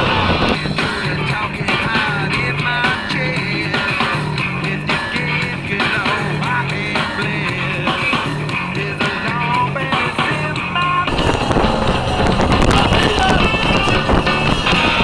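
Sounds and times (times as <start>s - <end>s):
rock song from radio: 0.0s - 15.0s.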